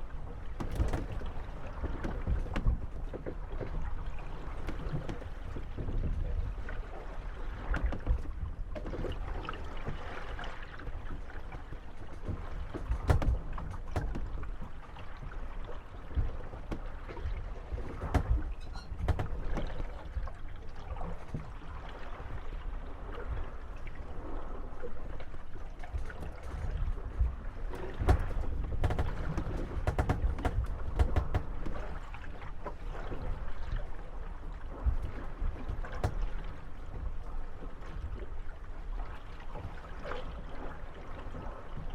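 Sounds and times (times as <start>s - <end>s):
boats knocking and creaking: 0.0s - 41.9s
water lapping: 0.0s - 41.9s.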